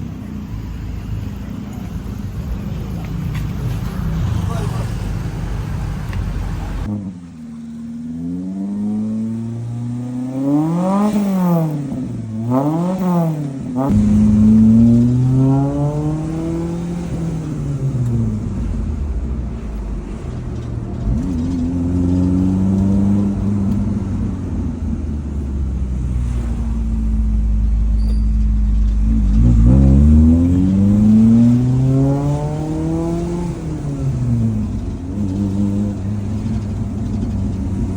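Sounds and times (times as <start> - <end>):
car engine revving: 0.0 - 37.9.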